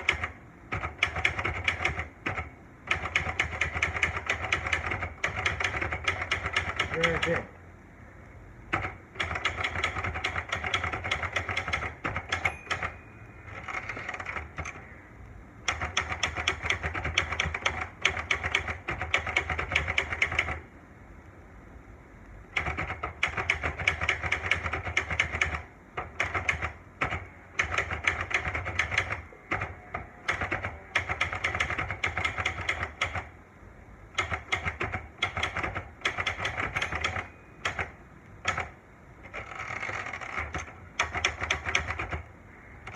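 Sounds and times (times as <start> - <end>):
typewriter keystrokes clacking: 0.0 - 7.5, 8.7 - 14.9, 15.6 - 20.6, 22.5 - 33.3, 34.1 - 42.9.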